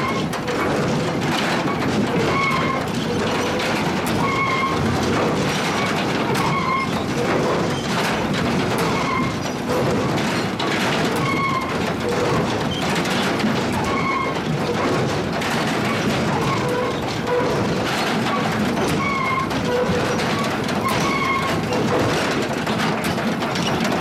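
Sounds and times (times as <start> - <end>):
sawmill machinery clattering: 0.0 - 24.0.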